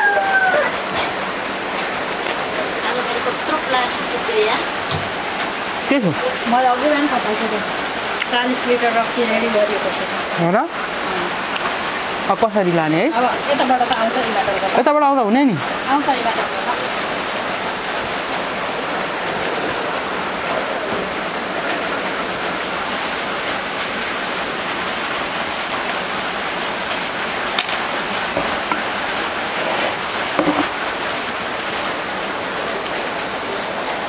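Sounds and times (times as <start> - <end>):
heavy rain on a tin roof: 0.0 - 34.0.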